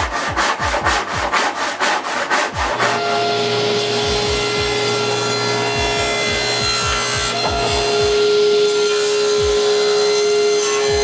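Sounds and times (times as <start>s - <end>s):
handsaw cutting wood: 0.0s - 11.0s
table saw humming: 0.1s - 11.0s.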